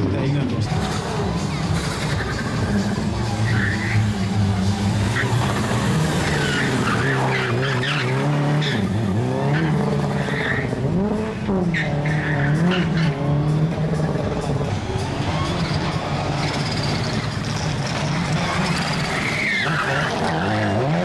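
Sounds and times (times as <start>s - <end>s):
rally car engine revving hard: 0.0s - 21.0s
tyres squealing: 0.7s - 10.8s, 13.9s - 21.0s.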